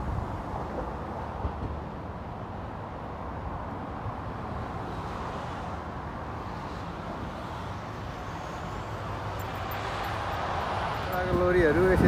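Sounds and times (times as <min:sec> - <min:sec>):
distant road traffic hum: 0:00.0 - 0:12.0.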